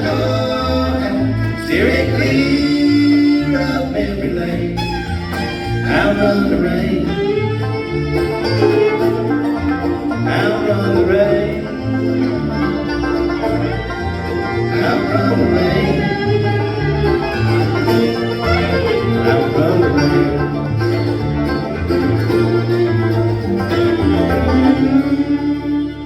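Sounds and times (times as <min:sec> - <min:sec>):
bluegrass band playing: 0:00.0 - 0:26.0.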